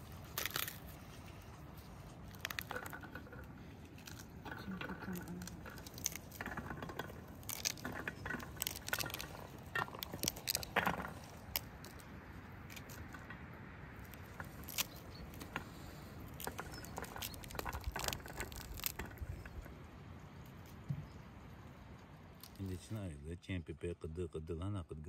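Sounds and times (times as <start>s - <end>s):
rind crackling: 0.0s - 23.0s.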